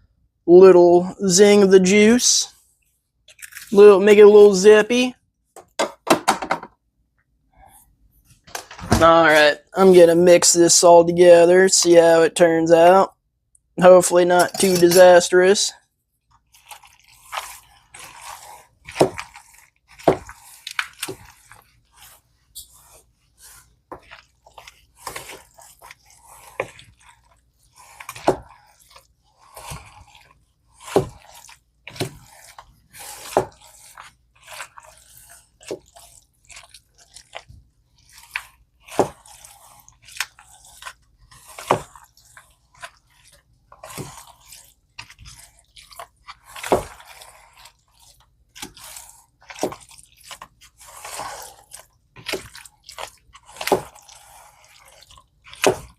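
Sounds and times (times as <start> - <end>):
utensil stirring thick salad: 0.7 - 5.8, 13.6 - 55.9.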